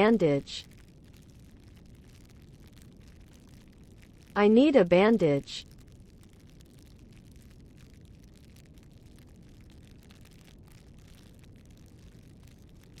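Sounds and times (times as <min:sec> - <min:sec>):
campfire low rumble: 0:00.0 - 0:13.0
fire crackling and popping: 0:00.0 - 0:13.0.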